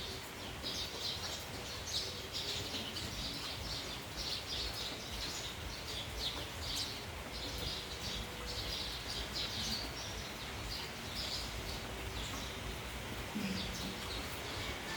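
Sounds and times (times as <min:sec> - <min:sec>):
rain and wind hiss: 0:00.0 - 0:14.9
sparrows chirping: 0:00.0 - 0:14.9.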